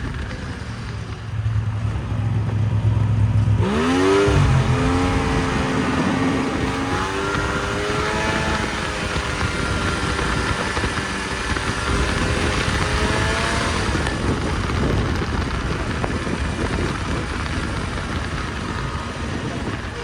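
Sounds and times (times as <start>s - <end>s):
rushing rumbling noise: 0.0s - 20.0s
snowmobile engine running: 0.0s - 20.0s.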